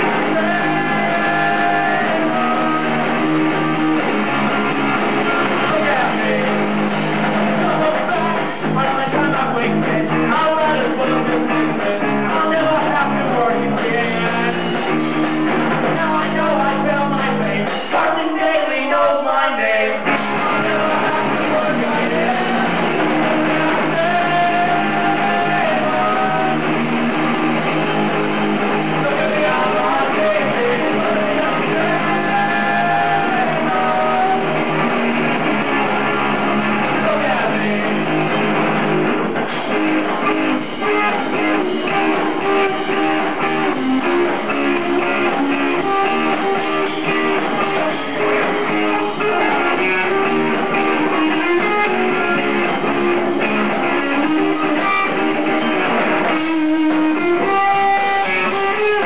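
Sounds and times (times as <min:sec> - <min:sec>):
rock music with guitars and drums: 0:00.0 - 0:18.5, 0:19.9 - 0:59.0.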